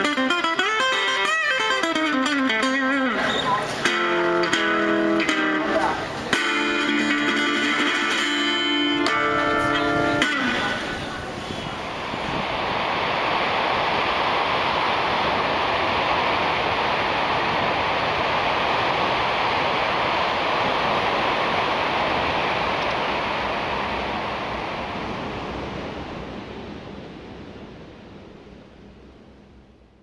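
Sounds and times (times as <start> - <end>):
ocean surf breaking: 0.0 - 29.6.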